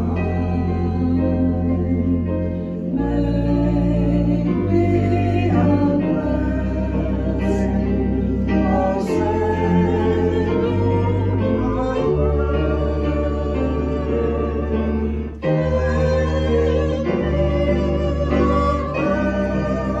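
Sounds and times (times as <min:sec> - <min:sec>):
organ chords: 0:00.0 - 0:20.0
woman singing a hymn: 0:00.0 - 0:20.0.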